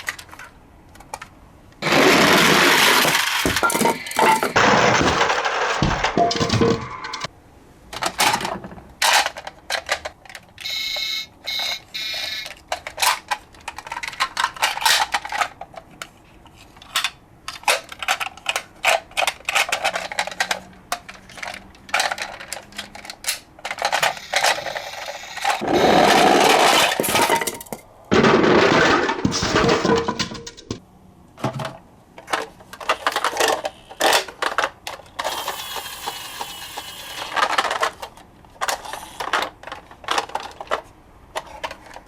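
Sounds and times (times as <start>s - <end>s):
toy cars clattering together: 0.0s - 7.3s, 8.0s - 30.8s, 31.4s - 42.0s.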